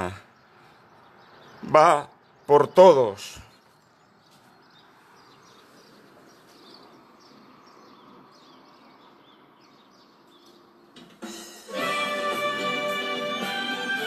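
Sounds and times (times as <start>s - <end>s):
small birds chirping: 0.0s - 11.3s
faint outdoor ambience: 0.0s - 14.0s.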